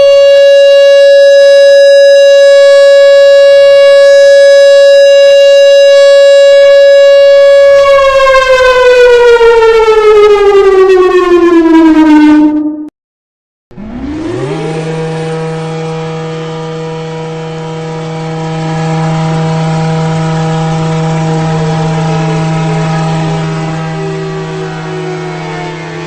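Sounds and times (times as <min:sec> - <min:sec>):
outdoor warning siren: 0:00.0 - 0:12.9, 0:13.7 - 0:26.0.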